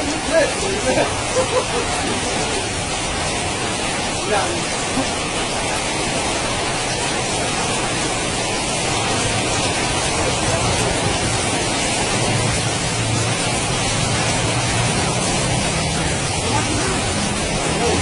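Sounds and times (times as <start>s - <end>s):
strong wind rushing: 0.0s - 18.0s.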